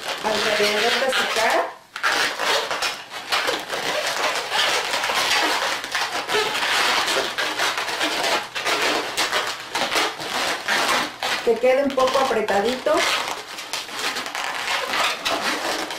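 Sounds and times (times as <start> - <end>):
balloons rubbing and scrunching: 0.0 - 15.9.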